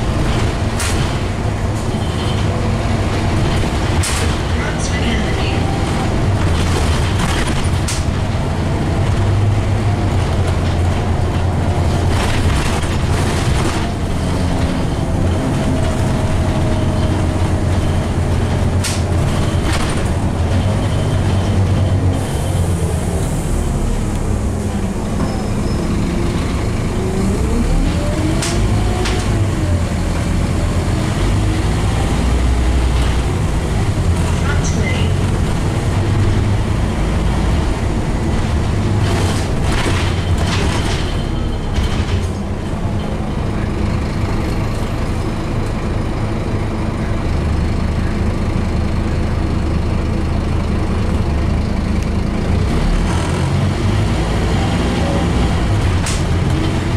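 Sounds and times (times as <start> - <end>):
bus engine rumble and whine: 0.0 - 56.9.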